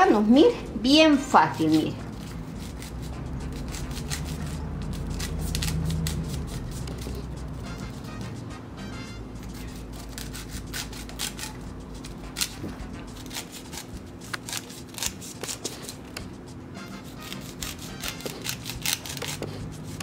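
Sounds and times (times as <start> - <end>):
faint background music: 0.0 - 20.0
knife scraping corn kernels: 1.5 - 8.0, 9.4 - 20.0.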